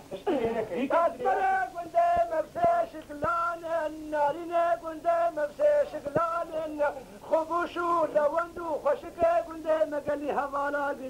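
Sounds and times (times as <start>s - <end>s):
man singing unaccompanied: 0.4s - 11.0s.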